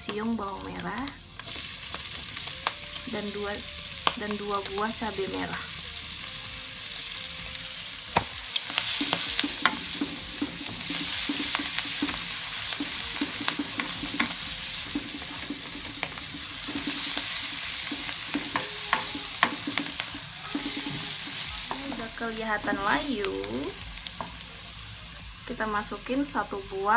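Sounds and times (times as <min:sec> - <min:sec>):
sizzling in oil: 0:00.0 - 0:26.9.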